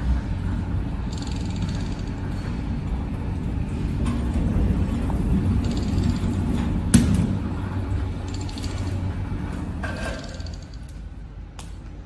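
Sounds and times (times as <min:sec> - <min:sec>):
wire stripping machine running: 0:00.0 - 0:11.2.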